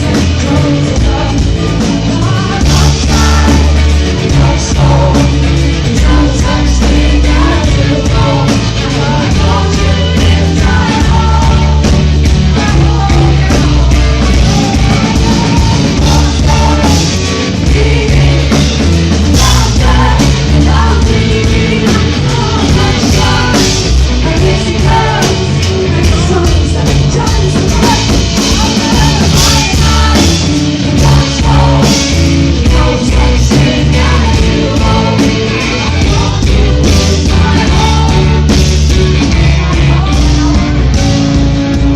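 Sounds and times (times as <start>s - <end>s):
woman singing: 0.0s - 41.2s
bass: 0.0s - 41.9s
drums: 0.0s - 41.9s.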